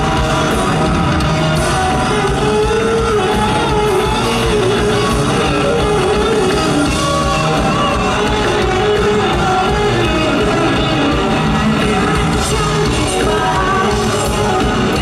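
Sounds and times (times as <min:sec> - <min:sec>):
drums: 0:00.0 - 0:15.0
electric guitars: 0:00.0 - 0:15.0
woman singing into a microphone: 0:01.6 - 0:15.0.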